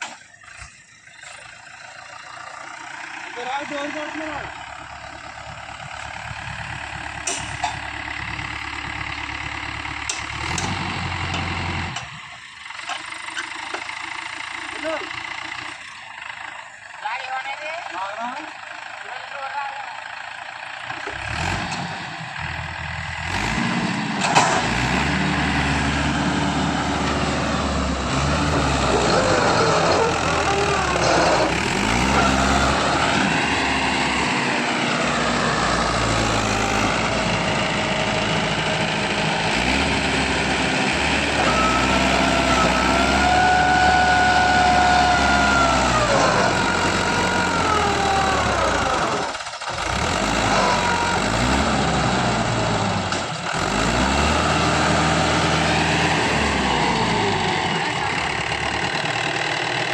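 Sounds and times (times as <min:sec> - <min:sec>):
tractor diesel engine revving: 0:00.0 - 0:59.9.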